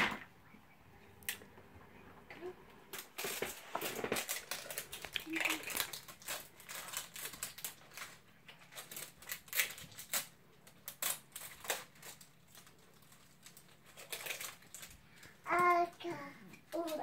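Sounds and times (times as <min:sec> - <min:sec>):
plastic wrapping crinkling: 0:02.9 - 0:17.0.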